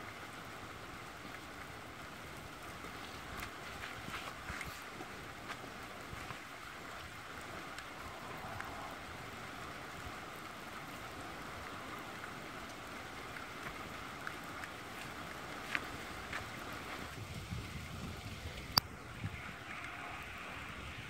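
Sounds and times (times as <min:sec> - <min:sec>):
small fire hissing and crackling: 0:00.0 - 0:21.0.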